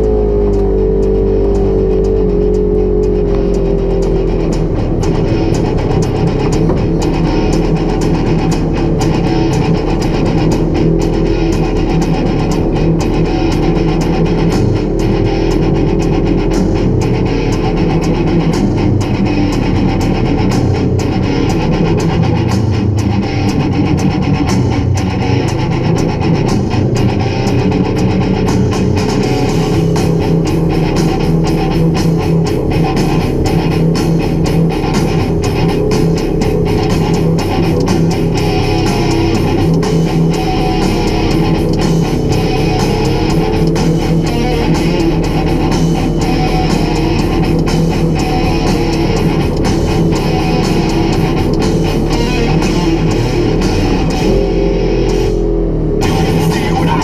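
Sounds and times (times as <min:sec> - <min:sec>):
loud guitar rock music: 0:00.0 - 0:57.0.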